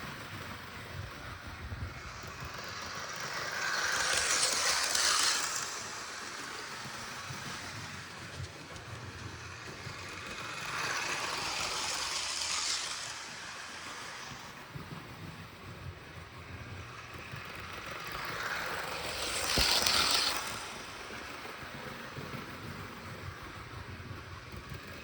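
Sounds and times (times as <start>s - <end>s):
model train passing: 0.0s - 25.0s.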